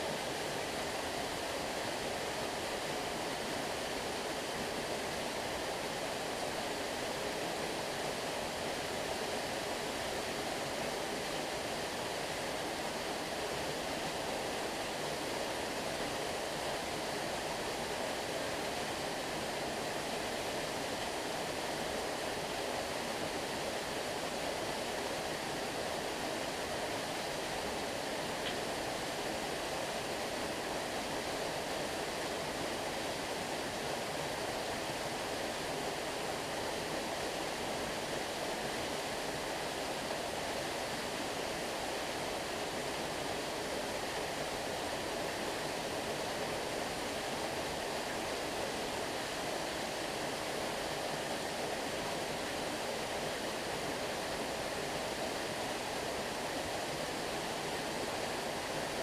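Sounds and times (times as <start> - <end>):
stream of water running: 0.0 - 59.0.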